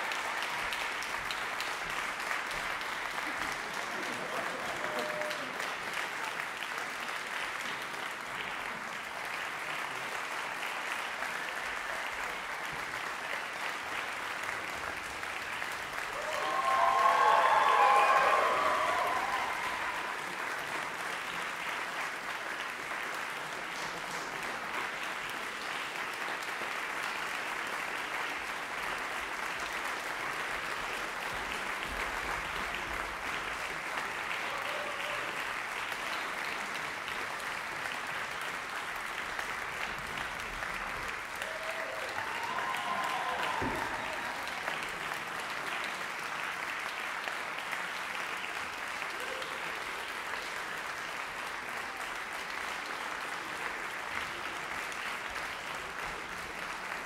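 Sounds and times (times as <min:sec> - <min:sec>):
large audience applauding: 0:00.0 - 0:57.0.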